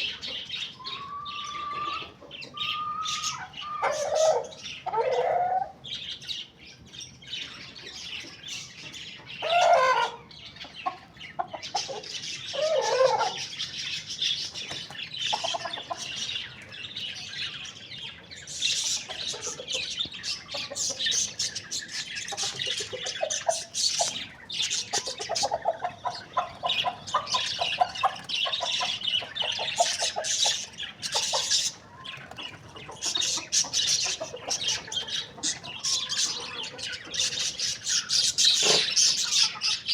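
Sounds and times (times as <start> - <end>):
chickens clucking and calling: 0.0 - 39.9.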